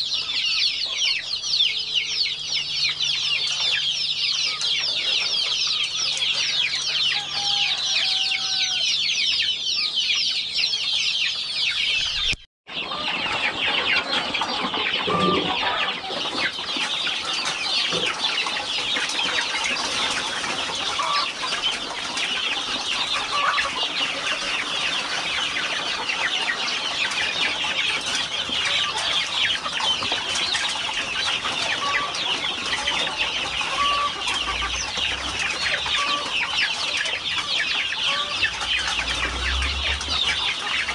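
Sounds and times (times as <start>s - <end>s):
chicken clucking: 0.0s - 40.9s
chickens peeping: 0.0s - 40.9s.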